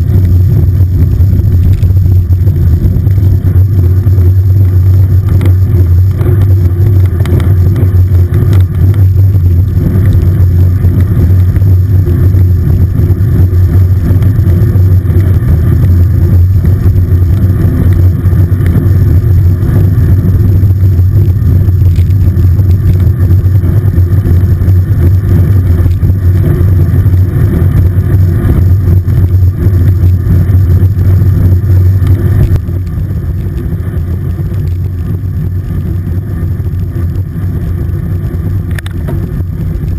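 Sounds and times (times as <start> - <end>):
bicycle road rumble: 0.0 - 39.9
wind roar: 0.0 - 39.9.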